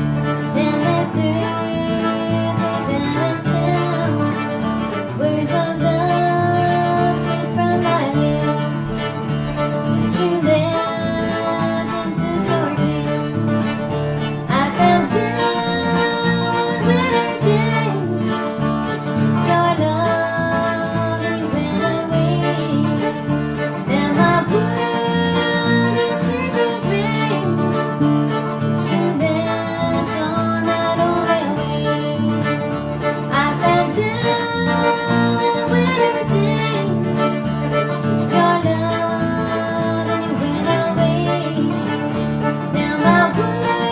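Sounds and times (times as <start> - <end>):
acoustic guitar: 0.0 - 43.9
bluegrass band playing: 0.0 - 43.9
fiddle: 0.0 - 43.9.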